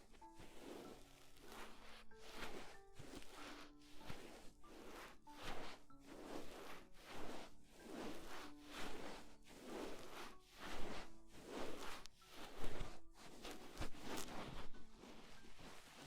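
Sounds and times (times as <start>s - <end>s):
ear pick scraping microphone: 0.0s - 16.0s.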